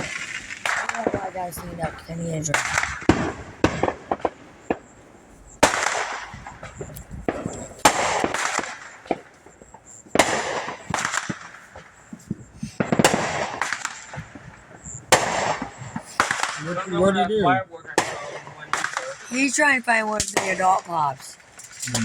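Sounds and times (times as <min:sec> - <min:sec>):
crackling hiss: 0:00.0 - 0:22.0
fireworks cracking: 0:00.0 - 0:22.0
small fireworks pops: 0:00.0 - 0:22.0.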